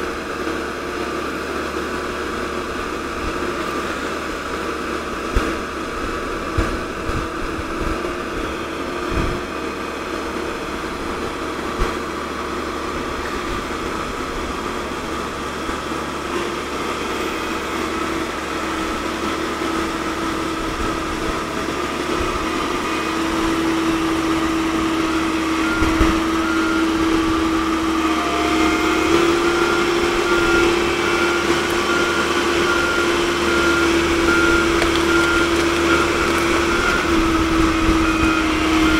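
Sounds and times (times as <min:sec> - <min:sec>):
excavator engine and hydraulics: 0:00.0 - 0:38.9.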